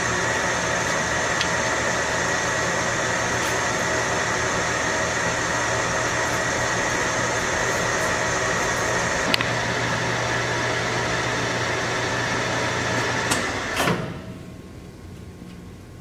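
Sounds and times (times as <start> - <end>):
lathe running hum: 0.0 - 15.1.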